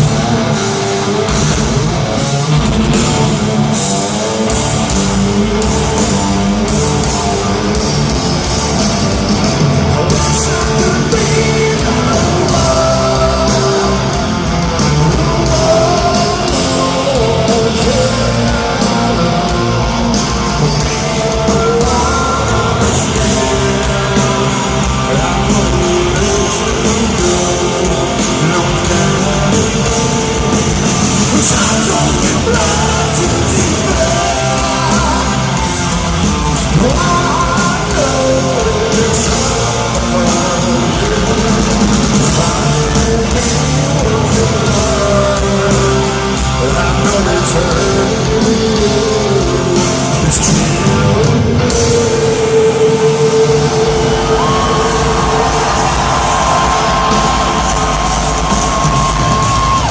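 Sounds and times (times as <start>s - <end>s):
distorted electric guitars: 0.0s - 59.9s
drums: 0.0s - 59.9s
person singing: 0.0s - 59.9s.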